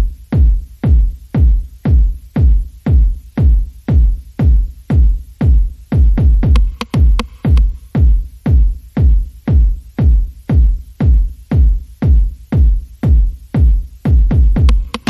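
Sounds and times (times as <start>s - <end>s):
electronic music: 0.0s - 15.0s
heavy kick-drum beat: 0.0s - 15.0s.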